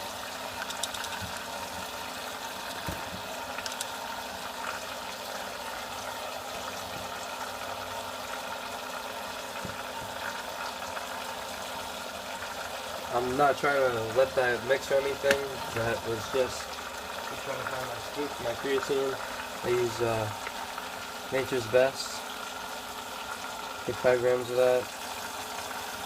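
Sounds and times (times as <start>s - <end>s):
liquid swirling: 0.0s - 21.5s.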